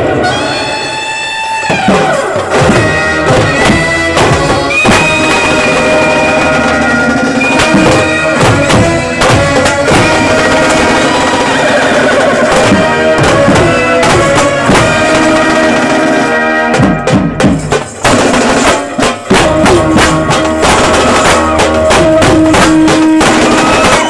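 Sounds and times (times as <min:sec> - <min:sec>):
held melody line: 0:00.2 - 0:24.0
side drums beaten fast: 0:01.6 - 0:24.0.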